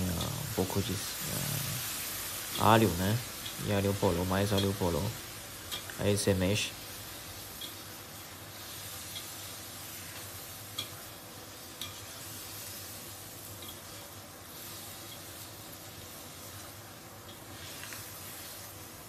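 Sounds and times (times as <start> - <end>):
meat sizzling in a wok: 0.0 - 19.0.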